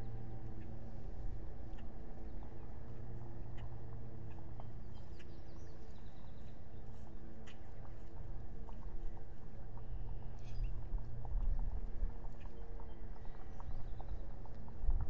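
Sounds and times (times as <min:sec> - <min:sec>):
steady low hum: 0:00.0 - 0:15.0
small birds chirping: 0:01.5 - 0:11.5, 0:12.2 - 0:14.8.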